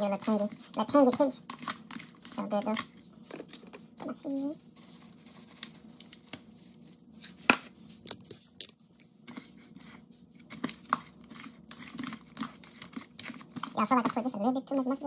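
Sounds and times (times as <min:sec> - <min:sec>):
hands mixing fish in a tub: 0:00.0 - 0:15.0.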